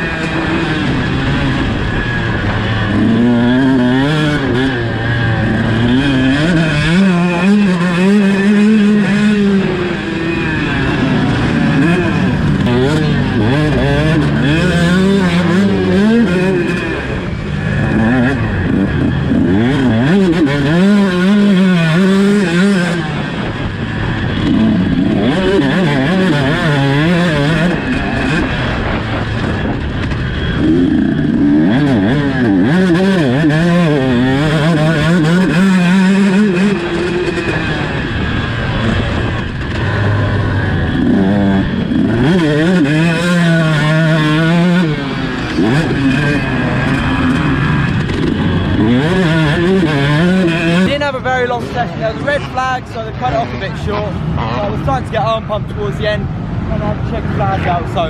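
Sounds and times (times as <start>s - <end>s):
two-stroke motocross bike revving: 0.0s - 58.0s.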